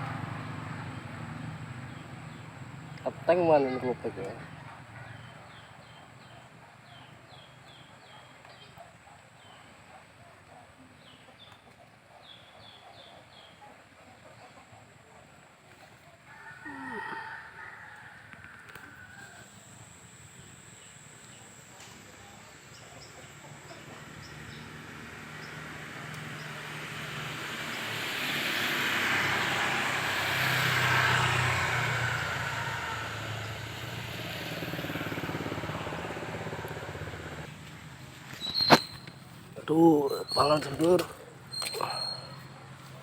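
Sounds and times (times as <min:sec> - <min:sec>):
vehicle passing by: 0:00.0 - 0:08.1, 0:16.3 - 0:43.0.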